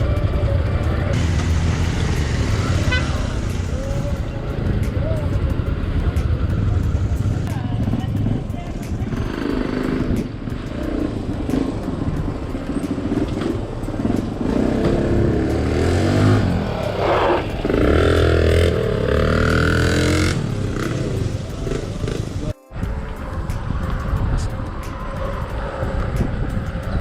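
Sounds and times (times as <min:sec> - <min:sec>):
motorcycle engine revving: 0:00.0 - 0:22.6.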